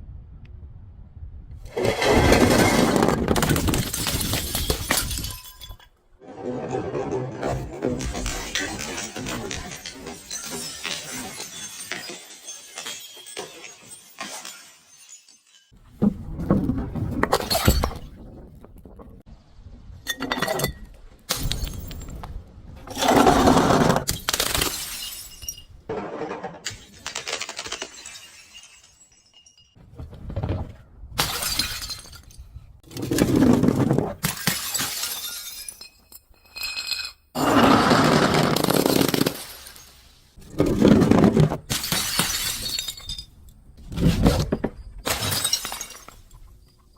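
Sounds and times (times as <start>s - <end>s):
glass bottles shattering: 1.8s - 6.0s, 7.9s - 15.8s, 17.2s - 18.2s, 20.1s - 22.2s, 22.9s - 29.8s, 31.2s - 46.9s.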